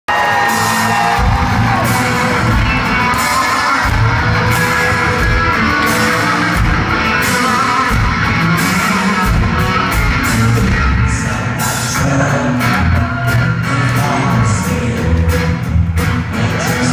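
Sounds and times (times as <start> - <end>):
steady drum beat: 0.1 - 15.2
electric guitars: 0.1 - 16.9
live rock band playing: 0.1 - 16.9.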